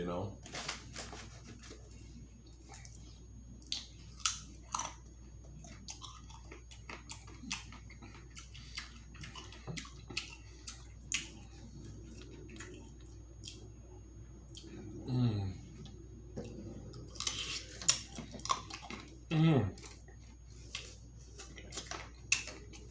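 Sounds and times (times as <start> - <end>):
chewing and crunching food: 0.4 - 22.9.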